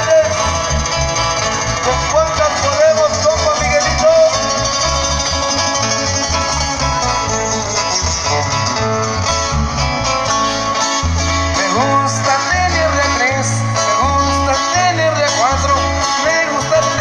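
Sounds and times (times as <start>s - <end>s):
acoustic guitars strumming: 0.0s - 17.0s
bass line: 0.0s - 17.0s
drums: 0.0s - 17.0s.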